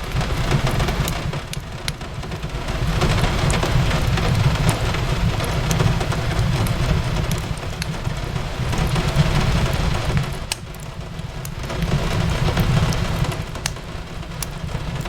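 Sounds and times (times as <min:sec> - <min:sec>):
rain on a window: 0:00.0 - 0:15.0
fireplace crackling: 0:02.8 - 0:15.0.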